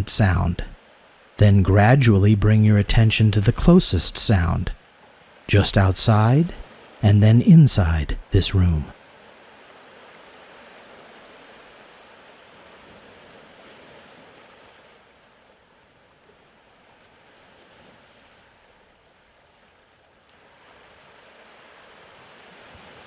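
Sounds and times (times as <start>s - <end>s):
faint ocean surf: 0.0s - 23.0s.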